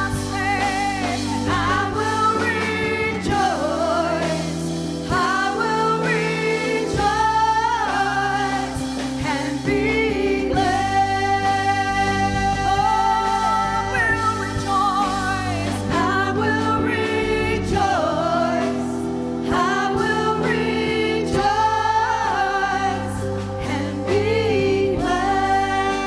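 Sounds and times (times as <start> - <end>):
sustained instrumental accompaniment: 0.0 - 26.0
voices singing gospel song: 0.0 - 26.0.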